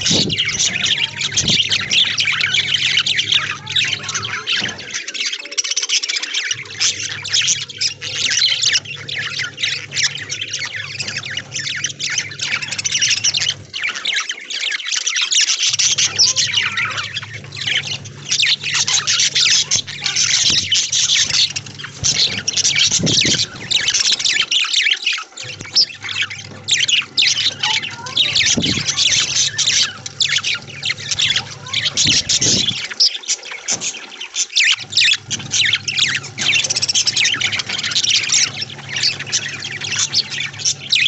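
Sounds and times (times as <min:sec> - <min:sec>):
low steady hum: 0:00.0 - 0:05.0, 0:06.5 - 0:13.9, 0:15.7 - 0:24.7, 0:25.4 - 0:32.9, 0:34.7 - 0:41.0
budgerigars chattering and squawking: 0:00.0 - 0:41.0.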